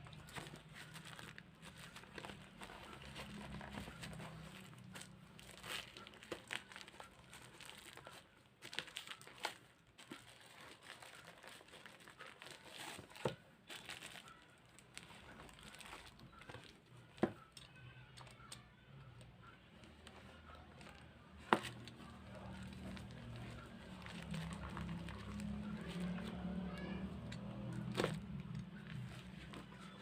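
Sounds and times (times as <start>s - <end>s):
packaging crinkling and rustling: 0.0s - 17.6s, 20.0s - 30.0s.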